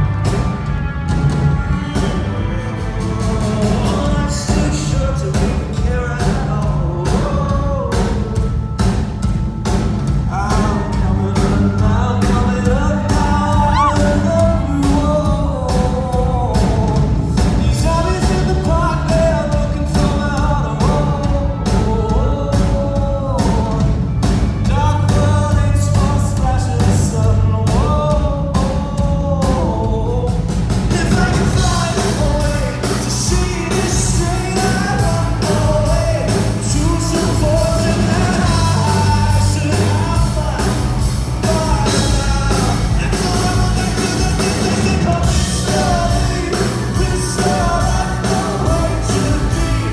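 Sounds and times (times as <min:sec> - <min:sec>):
drums keeping steady beat: 0:00.0 - 0:49.9
man singing: 0:00.0 - 0:49.9
rock band playing live: 0:00.0 - 0:49.9.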